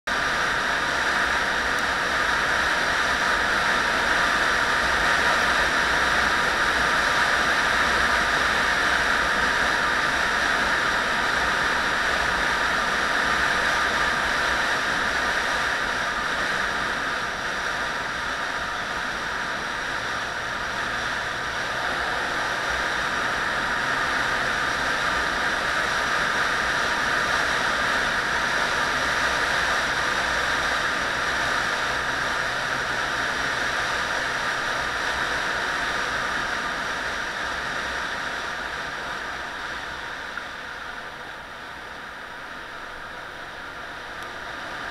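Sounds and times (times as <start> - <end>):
road noise: 0.0 - 44.9.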